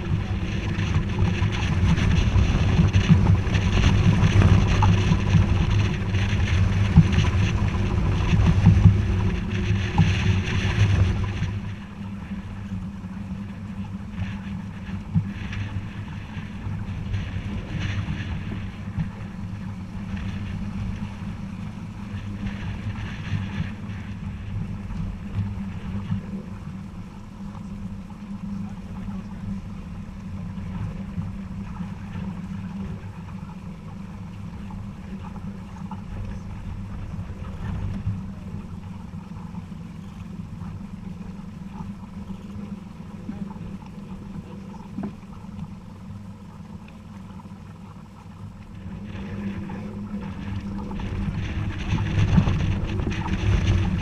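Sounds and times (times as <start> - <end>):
low hum: 0.0 - 54.0
rush of wind and water: 0.0 - 54.0
wind buffeting microphone: 0.0 - 54.0.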